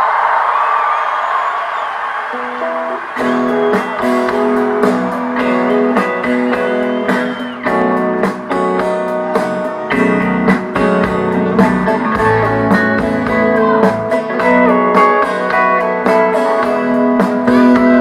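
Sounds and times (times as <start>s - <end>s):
guitar music through speakers: 2.4s - 18.0s.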